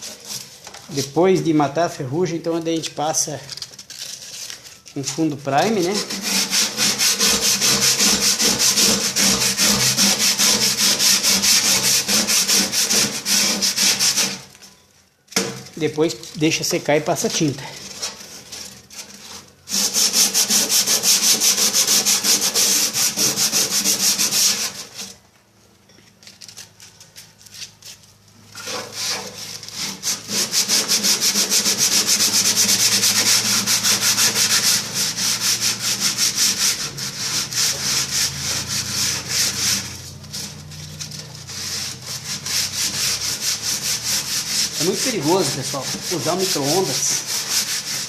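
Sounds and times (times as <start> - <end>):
sandpaper scraping sheet metal: 0.0 - 14.5, 15.4 - 25.2, 26.4 - 48.0.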